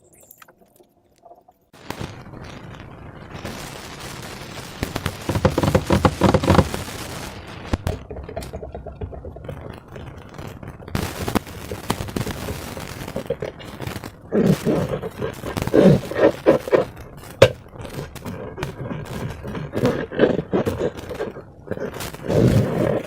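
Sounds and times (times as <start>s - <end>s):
crackling and popping of air: 0.0s - 23.0s.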